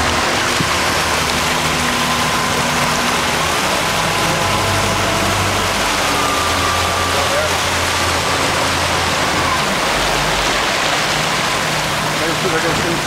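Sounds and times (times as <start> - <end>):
motorboat engine drone: 0.0 - 13.0
wind and water spray rushing: 0.0 - 13.0.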